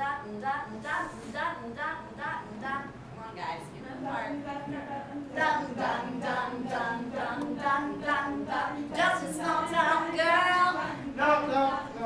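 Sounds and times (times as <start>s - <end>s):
person singing unaccompanied: 0.0s - 3.1s, 3.7s - 12.0s.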